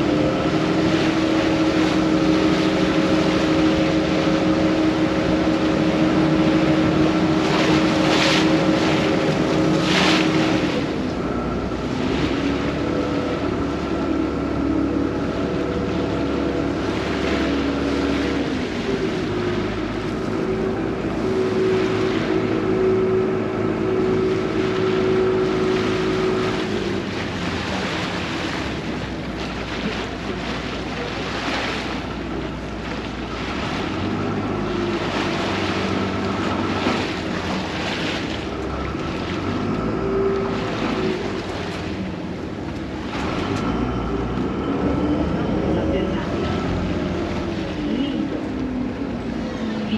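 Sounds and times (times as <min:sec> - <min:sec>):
boat engine running: 0:00.0 - 0:49.9
water splashing along hull: 0:00.0 - 0:49.9.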